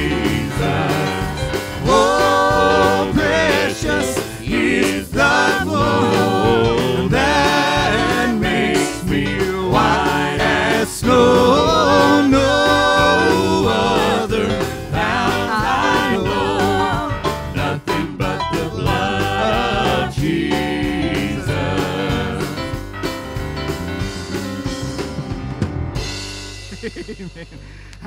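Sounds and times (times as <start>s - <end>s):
people singing long notes: 0.0s - 22.8s
drums: 0.0s - 28.0s
keyboard: 0.0s - 28.0s.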